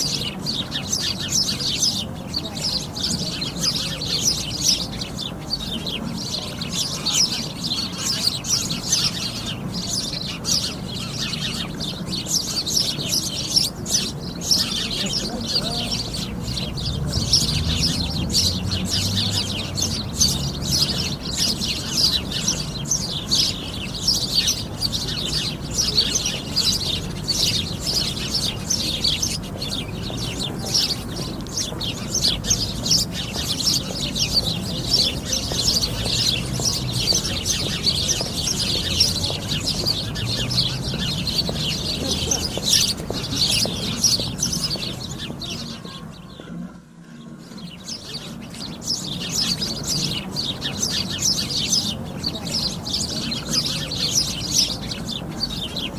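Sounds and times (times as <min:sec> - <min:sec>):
sparrows chirping: 0:00.0 - 0:55.9.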